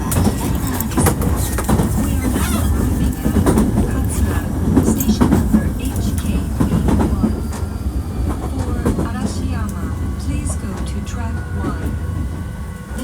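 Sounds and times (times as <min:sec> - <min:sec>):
rail joint clicks: 0:00.0 - 0:13.0
train wheels rumbling on track: 0:00.0 - 0:13.0.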